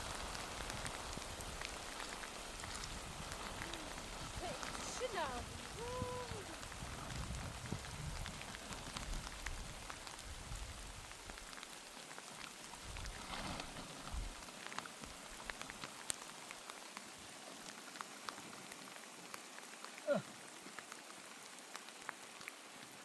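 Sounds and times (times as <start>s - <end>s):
rain drops ticking: 0.0s - 23.0s.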